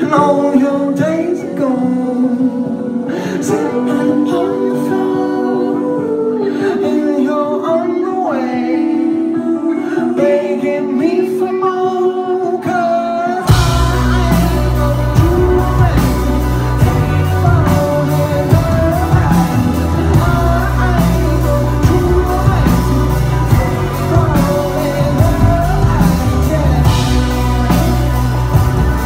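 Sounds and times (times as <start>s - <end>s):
live rock band playing: 0.0s - 29.0s
man singing lead vocal: 0.0s - 29.0s.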